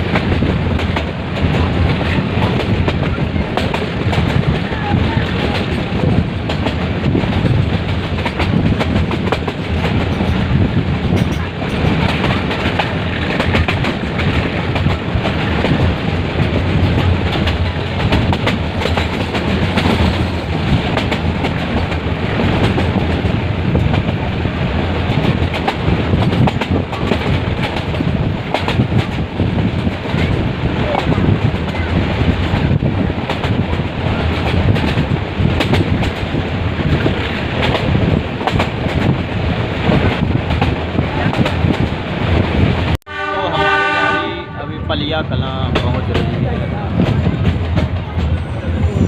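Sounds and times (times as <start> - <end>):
wheels clacking over rail joints: 0.0 - 42.5
train rumbling: 0.0 - 49.0.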